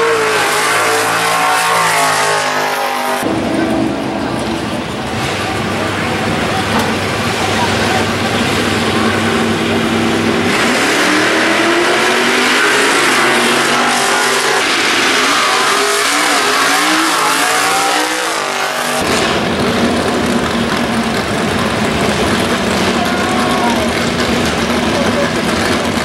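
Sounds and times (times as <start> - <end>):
drag-racing cars accelerating: 0.0 - 26.0
engines idling: 0.0 - 26.0.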